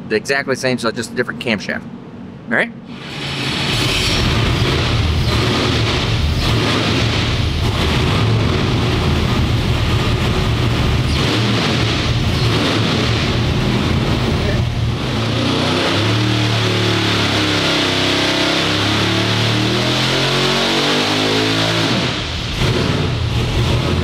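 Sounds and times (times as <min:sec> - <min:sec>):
engine low drone: 0:00.0 - 0:24.0.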